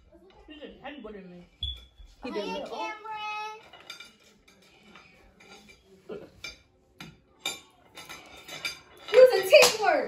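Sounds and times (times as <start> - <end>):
candy canes clinking on plates: 1.6 - 10.0.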